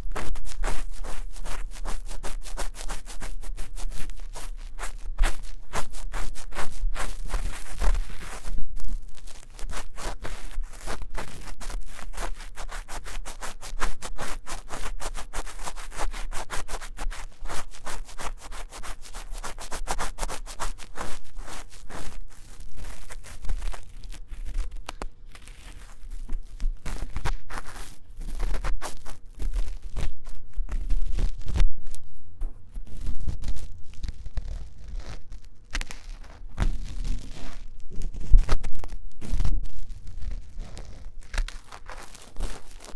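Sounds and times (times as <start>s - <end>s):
tool scratching inside microphone ear: 0.0s - 42.9s.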